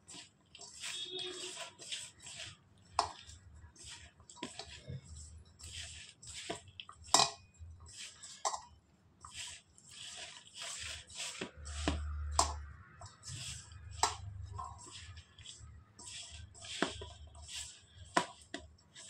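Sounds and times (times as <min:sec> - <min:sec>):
squishy rustles of mixing food: 0:00.0 - 0:19.0.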